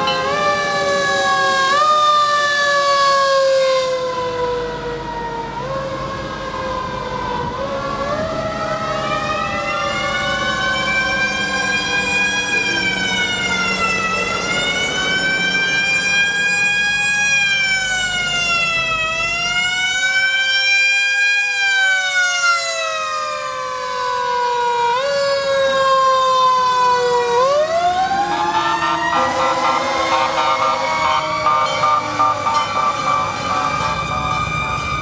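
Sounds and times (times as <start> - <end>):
fire engine sirens wailing: 0.0 - 35.0.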